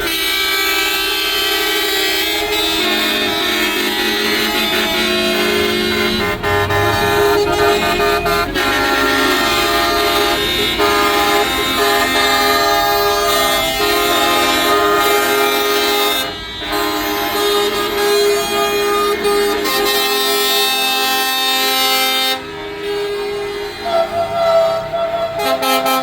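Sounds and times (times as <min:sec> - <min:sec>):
truck air horns blasting: 0:00.0 - 0:26.0.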